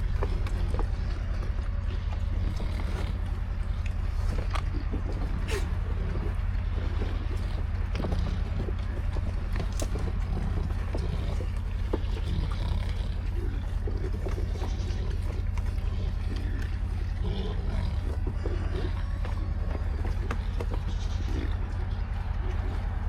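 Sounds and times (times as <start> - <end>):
pigs grunting and eating: 0.0 - 23.0
steady low rumble: 0.0 - 23.0.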